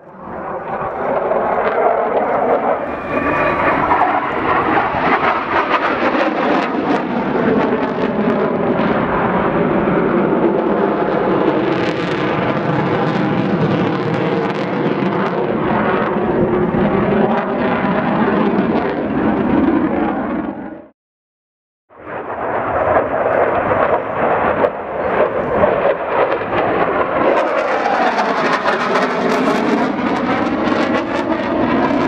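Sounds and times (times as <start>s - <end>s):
jet engines flying overhead: 0.0s - 20.9s, 21.9s - 32.0s.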